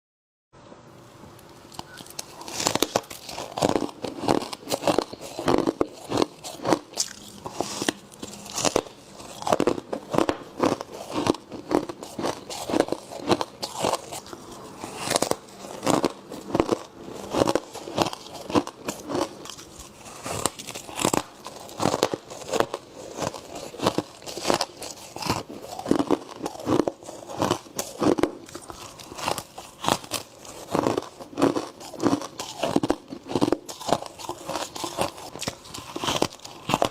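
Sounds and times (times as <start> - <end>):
crunchy frost being chewed: 1.4 - 36.9.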